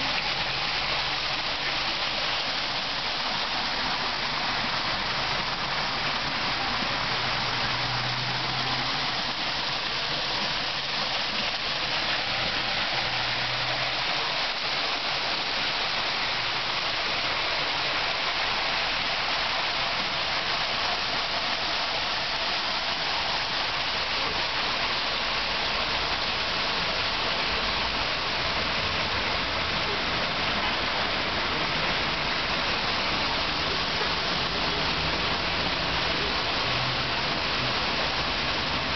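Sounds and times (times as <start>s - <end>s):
waterfall splashing into basin: 0.0s - 38.9s.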